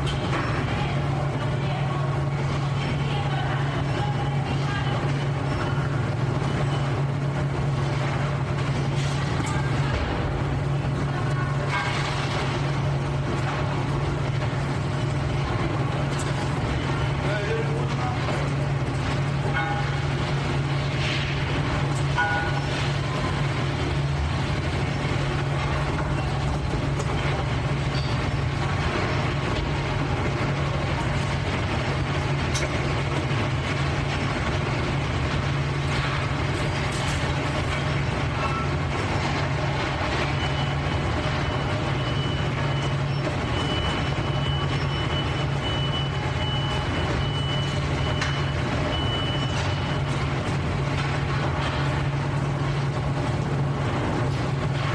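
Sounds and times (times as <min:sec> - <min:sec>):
factory machinery noise: 0:00.0 - 0:54.9.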